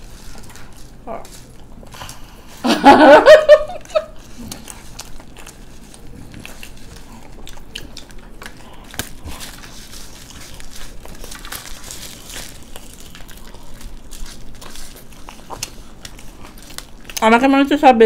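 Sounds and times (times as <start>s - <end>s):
people chewing crunchy food: 0.0s - 18.0s.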